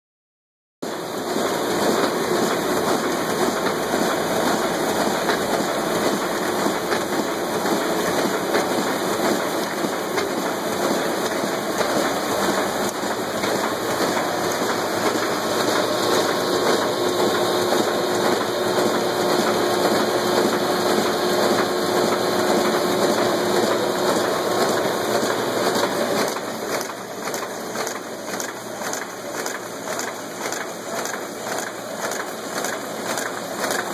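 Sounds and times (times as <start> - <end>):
printing press whirring and rattling: 0.8 - 33.9.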